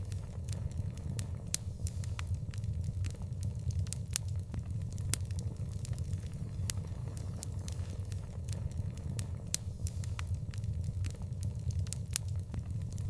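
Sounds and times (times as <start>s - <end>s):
steady low rumble: 0.0s - 13.0s
wood fire crackling and popping: 0.0s - 13.0s.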